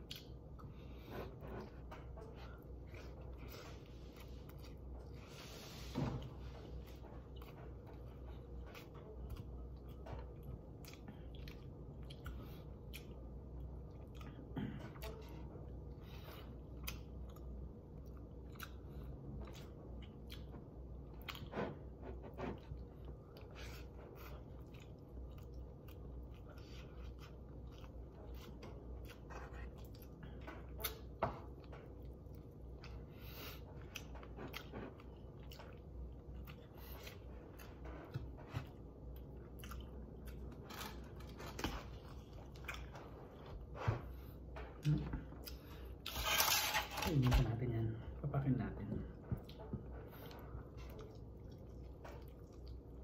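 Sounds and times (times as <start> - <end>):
person chewing: 0.0 - 47.1, 49.1 - 53.0.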